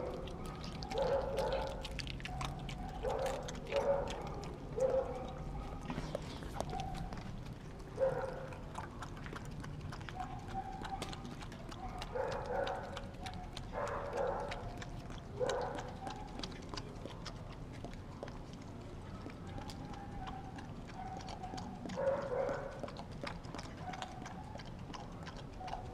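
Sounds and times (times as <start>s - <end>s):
dog licking and chewing food: 0.0s - 25.9s.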